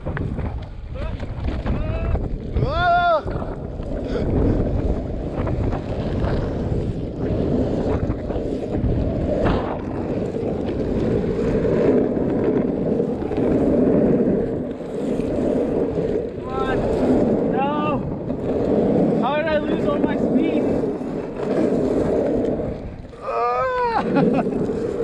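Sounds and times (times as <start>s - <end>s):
skateboard wheels rolling on asphalt: 0.0s - 25.0s
wind rushing over microphone: 0.0s - 25.0s.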